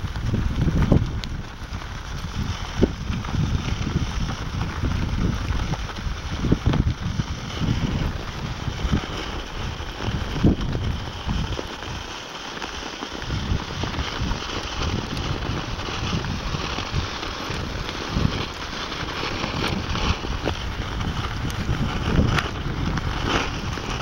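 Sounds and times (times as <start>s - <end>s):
ice skates scraping on ice: 0.0s - 24.0s
wind buffeting microphone: 0.0s - 24.0s.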